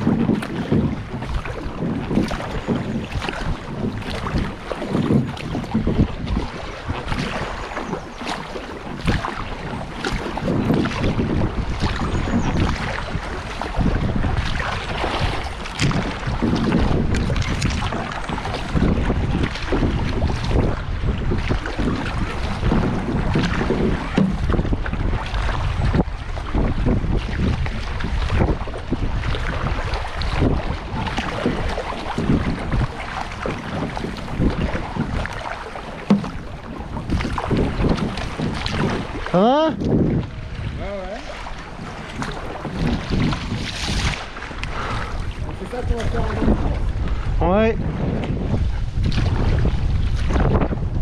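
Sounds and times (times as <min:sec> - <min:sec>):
short water splashes: 0:00.0 - 0:51.0
wind buffeting microphone: 0:00.0 - 0:51.0.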